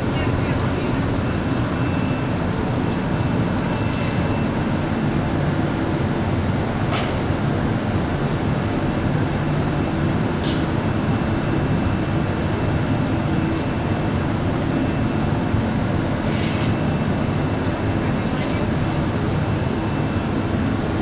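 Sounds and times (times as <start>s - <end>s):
gas burners roaring: 0.0s - 21.0s.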